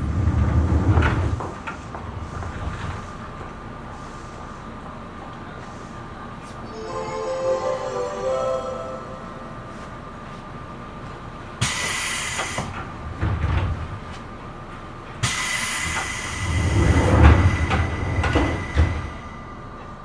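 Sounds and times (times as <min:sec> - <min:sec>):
train carriage running noise: 0:00.0 - 0:20.0.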